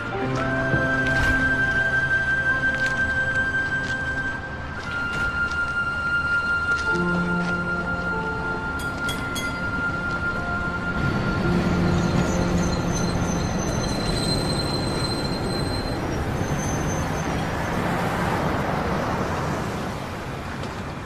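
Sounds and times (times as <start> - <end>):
wheel squeals: 0.0 - 20.0
tram rumbling on rails: 0.0 - 21.0.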